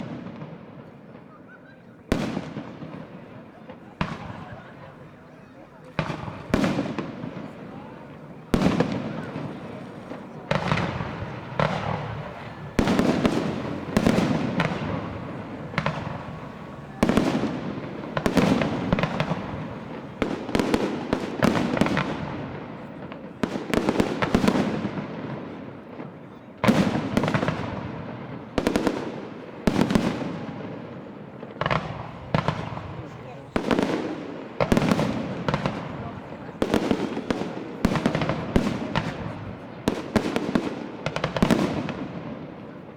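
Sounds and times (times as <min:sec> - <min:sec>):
fireworks bursting: 0:00.0 - 0:42.9
fireworks rumble and crackle: 0:00.0 - 0:42.9.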